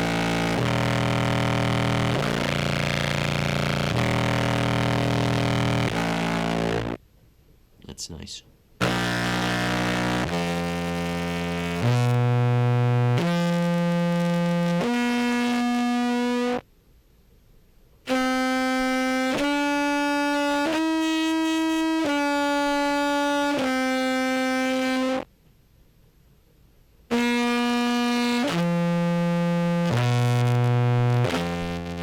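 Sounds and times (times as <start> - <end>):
contrabass clarinet with fuzz effect: 0.0 - 7.0, 8.8 - 16.6, 18.1 - 25.3, 27.1 - 32.0.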